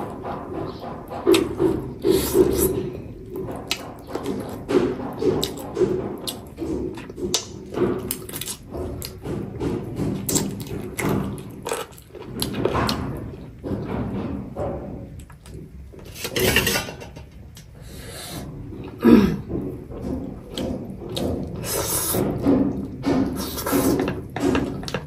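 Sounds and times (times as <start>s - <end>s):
chewing chicken: 0.0s - 15.7s, 18.5s - 25.0s.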